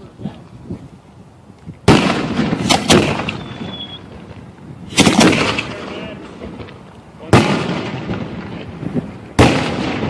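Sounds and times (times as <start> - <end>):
fireworks bangs echoing: 1.8 - 10.0.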